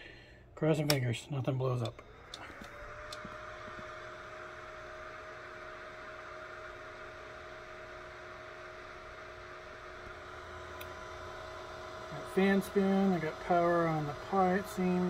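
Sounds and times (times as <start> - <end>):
small cooling fan humming: 0.0 - 15.0.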